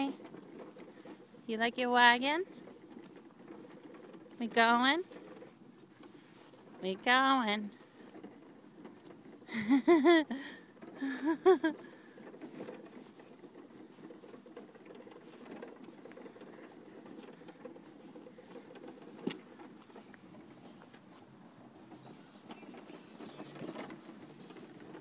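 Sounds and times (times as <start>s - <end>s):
wagon wheels rolling on asphalt: 0.0s - 25.0s.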